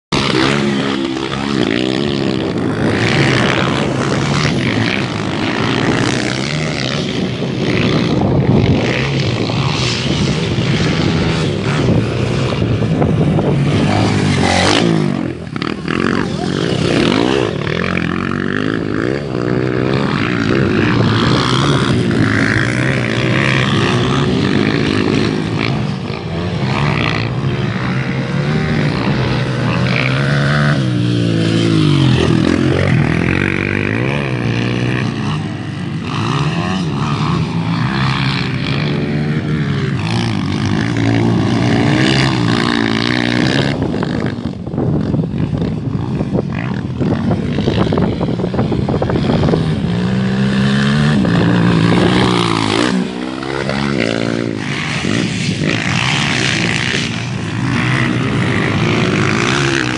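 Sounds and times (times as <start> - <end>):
motocross bike engines revving: 0.1 - 59.9.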